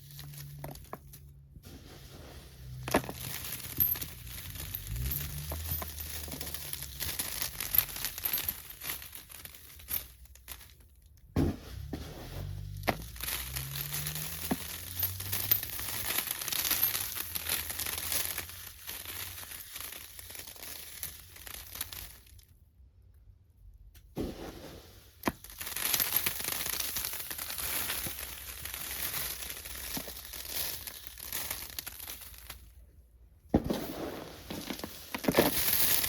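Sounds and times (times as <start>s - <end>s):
dry debris crunching and crackling: 0.0s - 22.5s, 24.3s - 32.8s, 33.5s - 36.0s.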